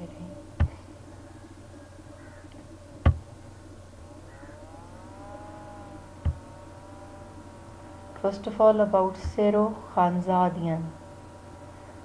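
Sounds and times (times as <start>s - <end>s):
faint rising and falling tone: 0.0s - 12.0s
steady low hum: 0.0s - 12.0s.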